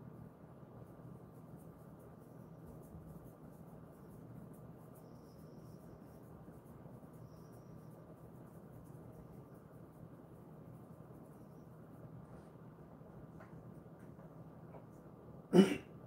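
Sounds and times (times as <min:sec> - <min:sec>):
low room hum: 0:00.0 - 0:16.0
rubbing strokes through dog fur: 0:00.9 - 0:14.2.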